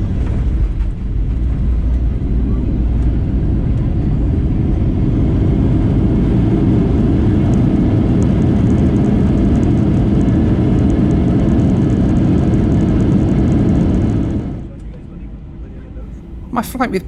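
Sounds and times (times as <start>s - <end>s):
wheels rumbling on runway: 0.0s - 16.5s
jet engines rumbling: 0.0s - 17.0s.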